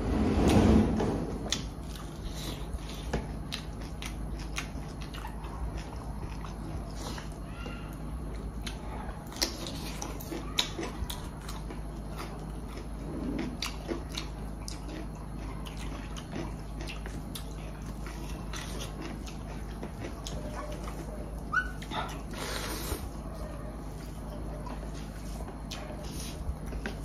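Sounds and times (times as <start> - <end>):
chewing and lip-smacks: 1.5 - 27.0.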